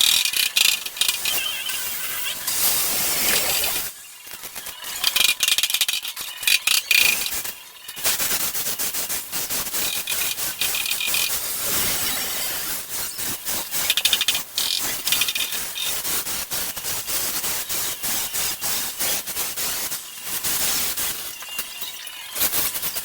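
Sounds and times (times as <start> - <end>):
welding arc crackling: 0.0 - 23.0.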